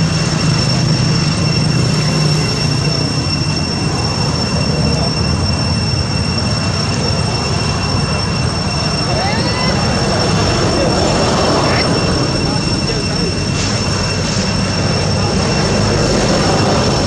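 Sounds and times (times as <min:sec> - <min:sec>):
constant high-pitched whine: 0:00.0 - 0:17.0
outdoor background noise: 0:00.0 - 0:17.0.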